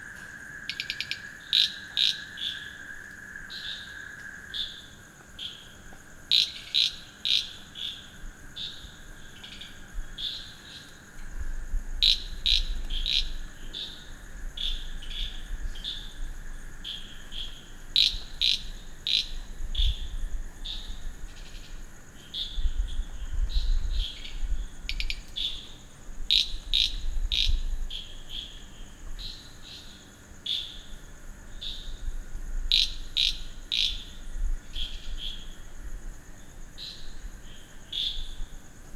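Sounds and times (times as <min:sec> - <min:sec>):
frogs calling: 0:00.0 - 0:11.3, 0:12.0 - 0:32.1, 0:32.7 - 0:38.5
high insect drone: 0:00.0 - 0:38.9.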